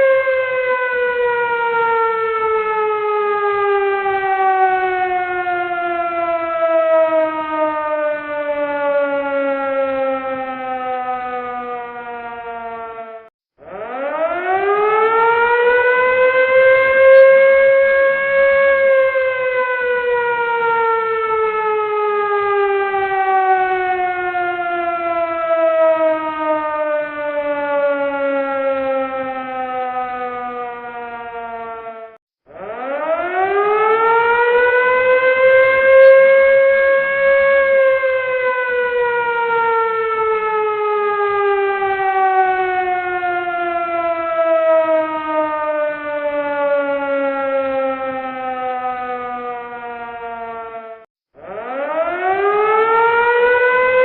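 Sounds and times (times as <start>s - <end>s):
emergency warning siren: 0.0s - 54.0s.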